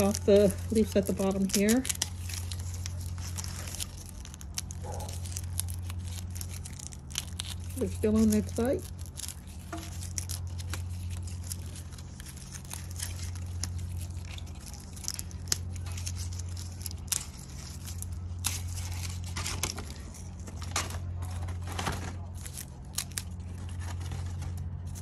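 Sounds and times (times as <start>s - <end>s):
leaves tearing and snapping: 0.0s - 25.0s
steady low hum: 0.0s - 25.0s.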